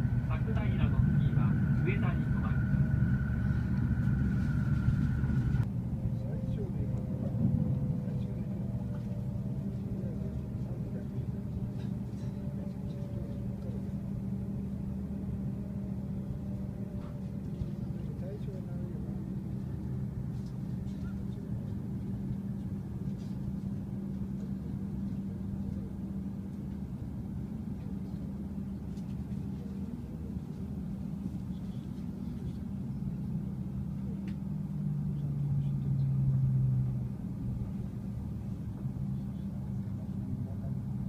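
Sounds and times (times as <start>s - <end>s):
train cabin rumble: 0.0s - 34.5s
low tone: 0.0s - 41.0s
steady hum: 0.0s - 41.0s.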